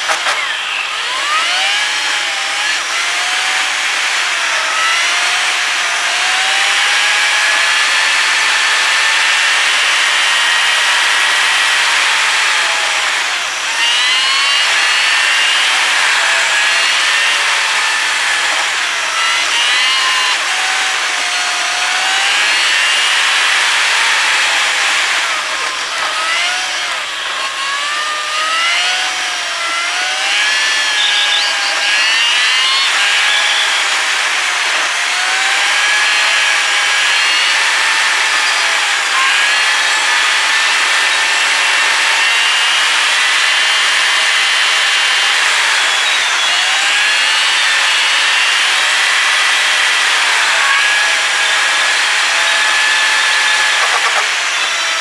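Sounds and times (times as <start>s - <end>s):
whining car engine: 0.0s - 55.0s.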